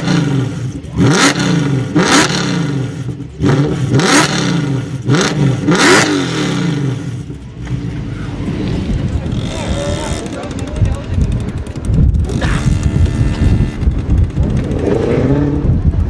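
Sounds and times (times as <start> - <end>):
car engine revving: 0.0 - 10.9, 11.8 - 16.0
exhaust cracks: 0.0 - 16.0.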